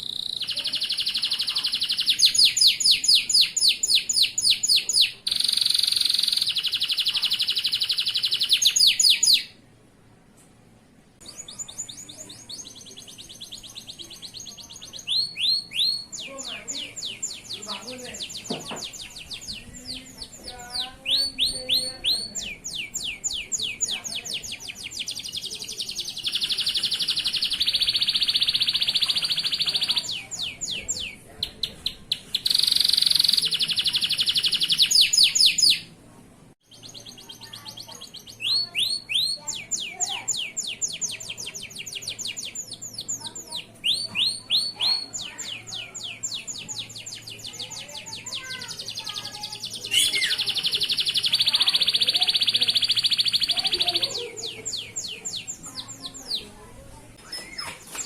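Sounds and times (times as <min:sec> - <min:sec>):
canary singing: 0:00.0 - 0:09.6, 0:11.2 - 0:36.0, 0:36.6 - 0:58.0.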